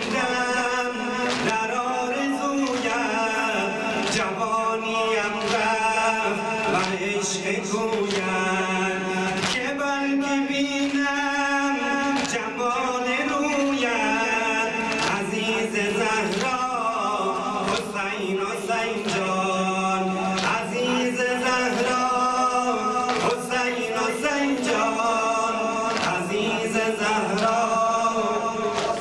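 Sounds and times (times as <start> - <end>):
man chanting into microphone: 0.0 - 29.0.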